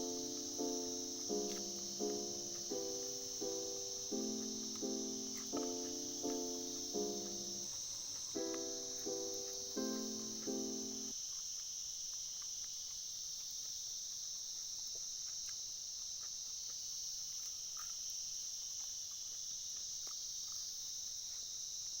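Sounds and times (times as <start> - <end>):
faint ticks: 0.0 - 22.0
insect chorus drone: 0.0 - 22.0.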